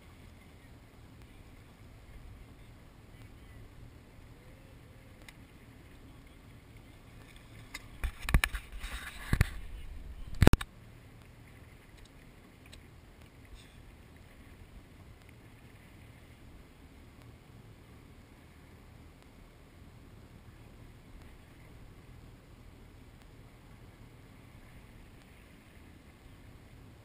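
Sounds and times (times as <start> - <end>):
faint steady background: 0.0 - 27.0.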